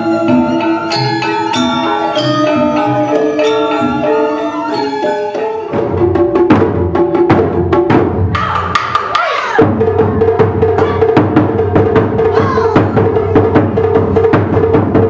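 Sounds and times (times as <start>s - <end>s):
taiko drums: 0.0s - 15.0s.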